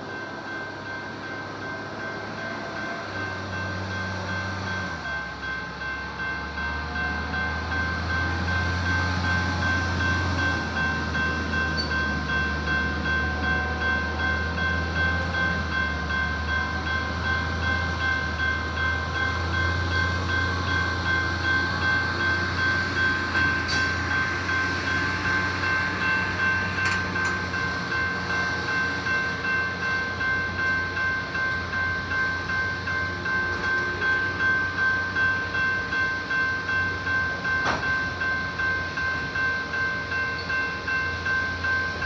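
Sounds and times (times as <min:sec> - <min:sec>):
crossing bell ringing: 0:00.0 - 0:42.0.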